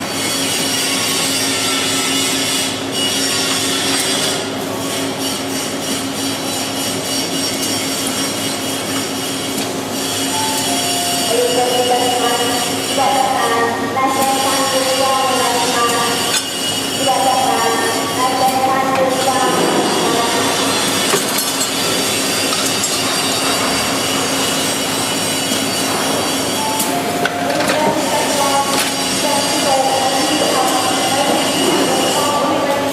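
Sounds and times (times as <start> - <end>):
machine running loudly: 0.0 - 32.9.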